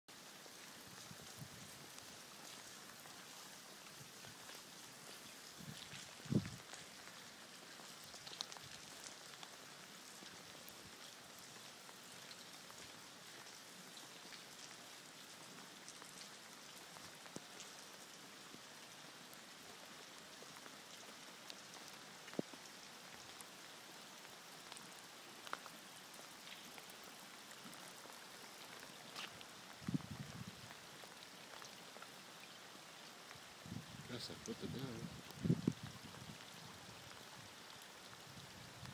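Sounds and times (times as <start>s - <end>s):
rain pattering on water: 0.1s - 38.9s
water drips: 0.1s - 38.9s.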